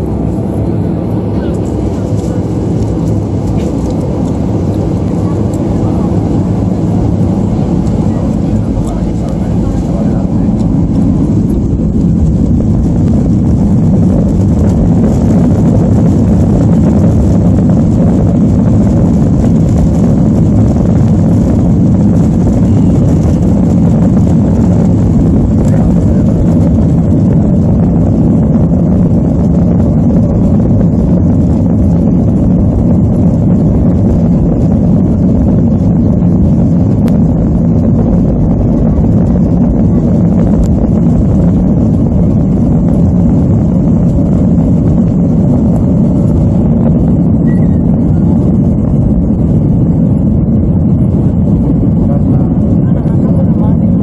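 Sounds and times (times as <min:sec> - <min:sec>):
aircraft engines running: 0:00.0 - 0:54.0
airframe and wheels rumbling: 0:00.0 - 0:54.0.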